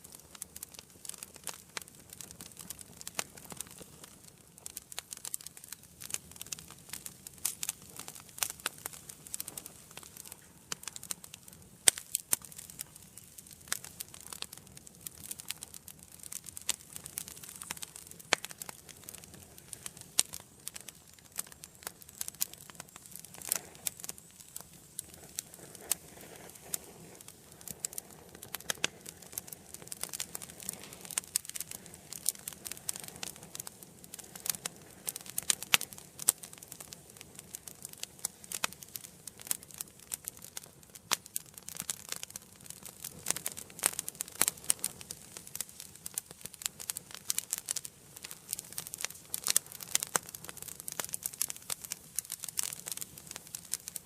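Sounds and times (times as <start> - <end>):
faint hiss of burning logs: 0.0 - 54.0
wood fire crackling: 0.0 - 54.0.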